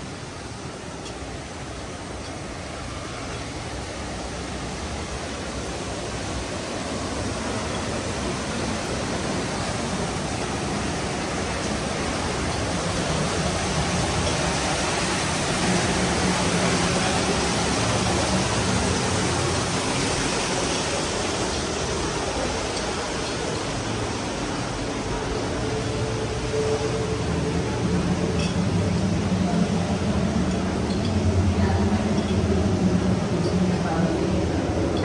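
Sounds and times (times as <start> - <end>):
steady rushing noise: 0.0 - 35.0.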